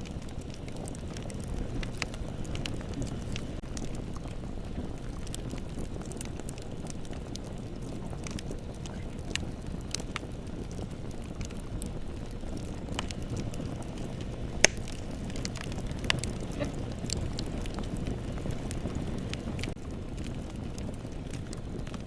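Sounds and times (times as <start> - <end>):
bonfire rumbling: 0.0 - 22.0
wood crackles and pops: 0.0 - 22.0.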